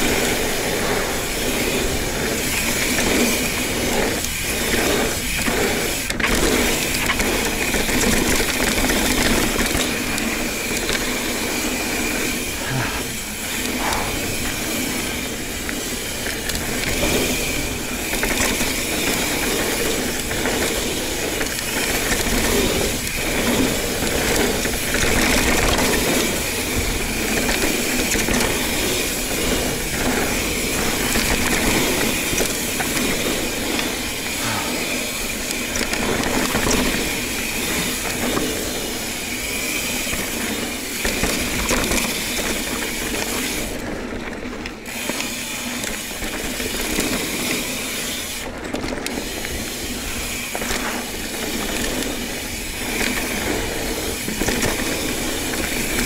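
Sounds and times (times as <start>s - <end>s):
bicycle tyres on dirt: 0.0s - 56.0s
bike rattling and clicking: 0.0s - 56.0s.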